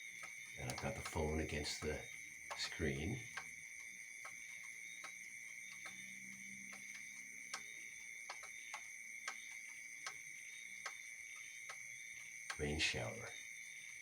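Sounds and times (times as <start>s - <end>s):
frogs and insects chorus: 0.0s - 14.0s
rain drips: 0.0s - 14.0s.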